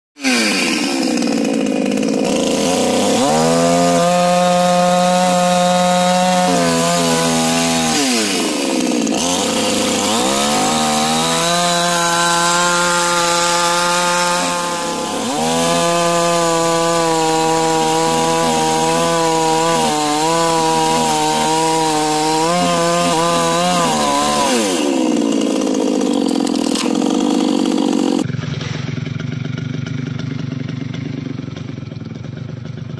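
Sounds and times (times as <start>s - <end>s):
chainsaw cutting wood: 0.2s - 29.6s, 30.4s - 31.9s.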